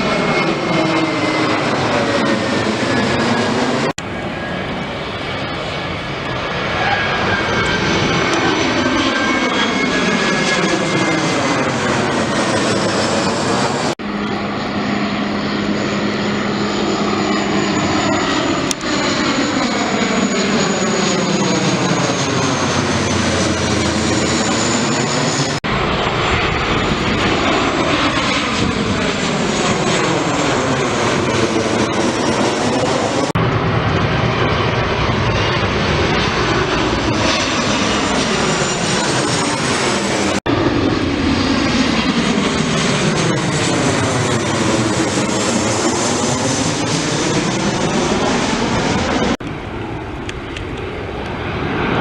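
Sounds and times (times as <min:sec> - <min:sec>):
airliners passing low overhead: 0:00.0 - 0:52.0.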